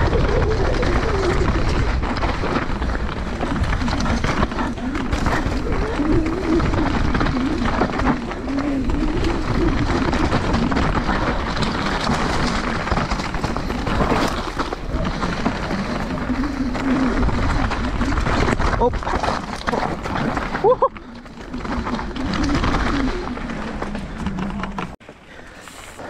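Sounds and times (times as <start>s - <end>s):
bike knocking and rattling: 0.0s - 25.9s
bike tyres on dirt and rocks: 0.0s - 26.0s.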